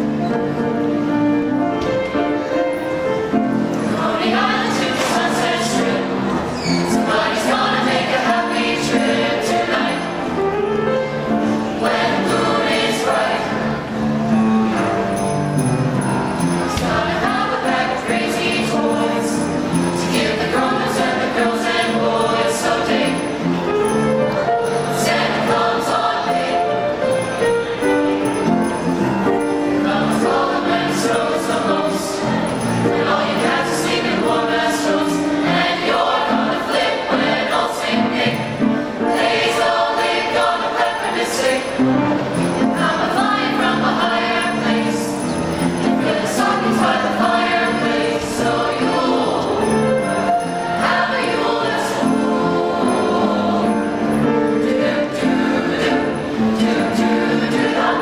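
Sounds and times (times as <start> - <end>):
mixed choir singing: 1.4 - 58.0.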